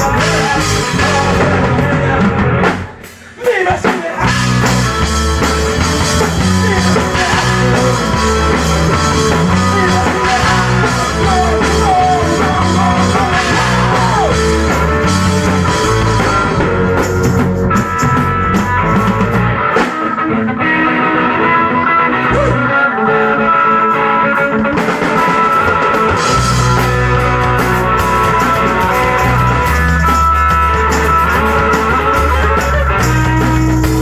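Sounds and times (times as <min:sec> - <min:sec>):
electric bass: 0:00.0 - 0:03.3, 0:04.2 - 0:34.0
drum kit with cymbals: 0:00.0 - 0:20.0, 0:24.7 - 0:34.0
electric guitar: 0:00.0 - 0:34.0.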